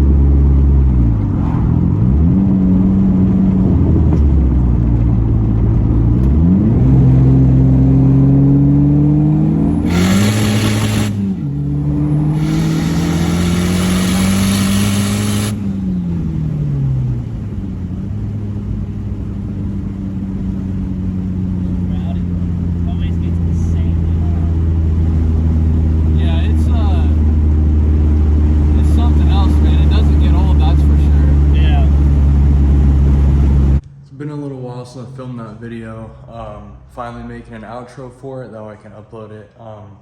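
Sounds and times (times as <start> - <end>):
car engine accelerating: 0.0 - 33.8.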